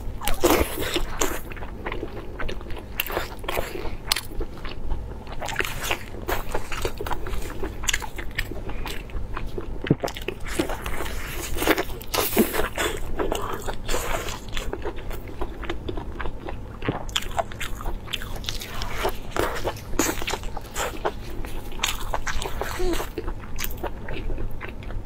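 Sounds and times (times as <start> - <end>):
chewing and biting sausage: 0.0 - 25.0.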